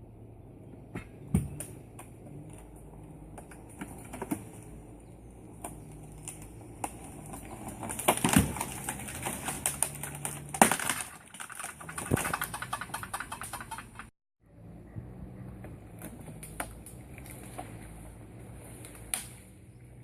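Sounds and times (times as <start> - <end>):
branches and twigs snapping: 1.0 - 14.1, 15.6 - 19.6.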